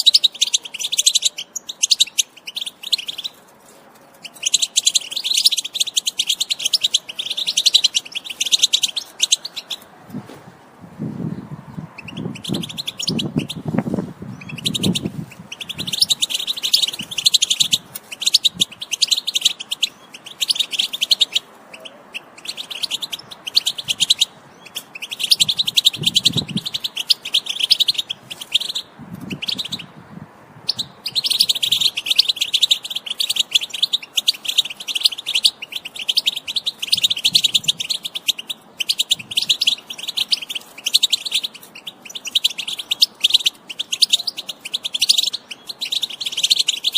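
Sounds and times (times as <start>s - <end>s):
goldfinch singing: 0.0s - 3.4s, 4.2s - 9.9s, 11.3s - 30.0s, 30.7s - 46.9s.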